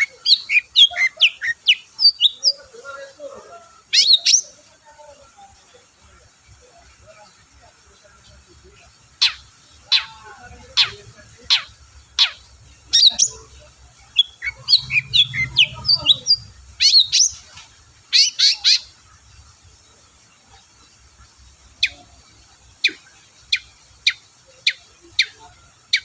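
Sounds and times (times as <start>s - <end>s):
bird twittering and chattering: 0.0s - 26.0s.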